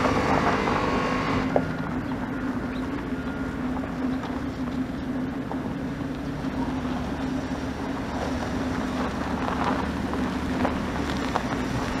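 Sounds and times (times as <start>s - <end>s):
pickup engine running: 0.0s - 12.0s.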